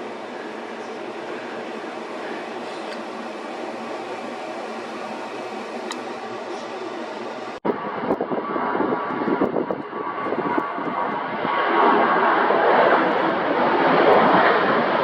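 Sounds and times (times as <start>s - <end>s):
jet airliner engine noise: 0.0s - 15.0s.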